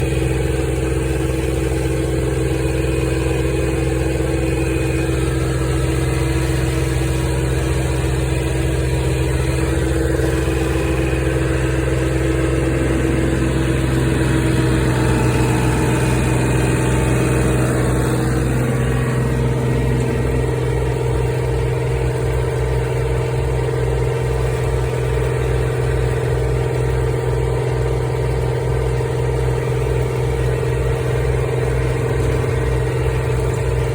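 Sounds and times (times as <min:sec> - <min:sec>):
aerators working: 0:00.0 - 0:33.9
low pulsing: 0:00.0 - 0:33.9
tractor engines running: 0:00.0 - 0:33.9.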